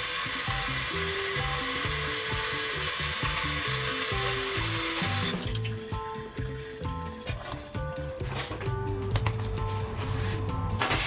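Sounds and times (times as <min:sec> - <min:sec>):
tap water running into bowl: 0:00.0 - 0:09.4
background music: 0:00.0 - 0:11.0.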